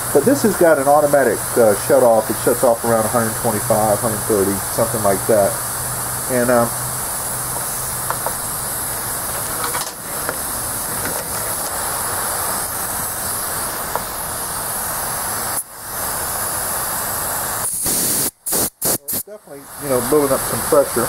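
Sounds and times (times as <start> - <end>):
air compressor hissing: 0.0 - 21.0.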